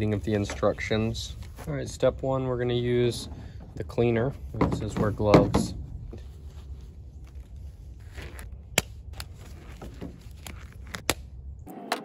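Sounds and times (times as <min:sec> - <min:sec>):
steady low rumble: 0:00.0 - 0:11.7.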